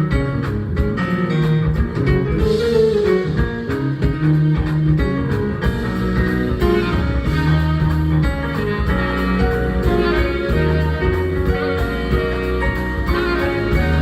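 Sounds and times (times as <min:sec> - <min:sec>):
drum hits: 0:00.0 - 0:14.0
jazz band playing: 0:00.0 - 0:14.0
melodic lead line bending: 0:00.0 - 0:14.0.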